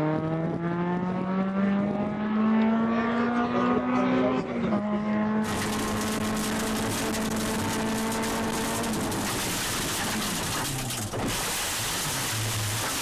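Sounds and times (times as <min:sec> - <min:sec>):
rally car engine from inside cabin: 0:00.0 - 0:13.0.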